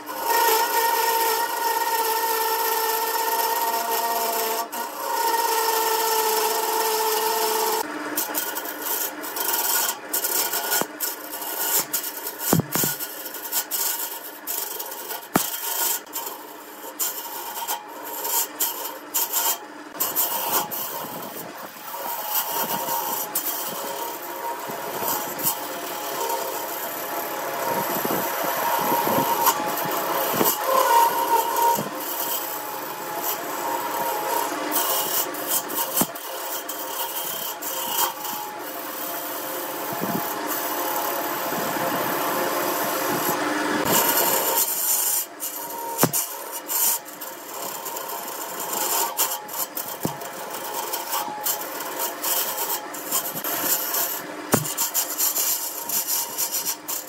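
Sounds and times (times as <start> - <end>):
lathe tool scraping wood: 0.0 - 57.0
lathe running: 0.1 - 57.0.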